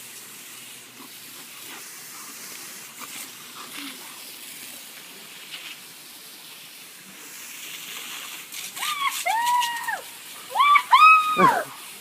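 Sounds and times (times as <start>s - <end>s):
water spray hissing: 0.0s - 12.0s.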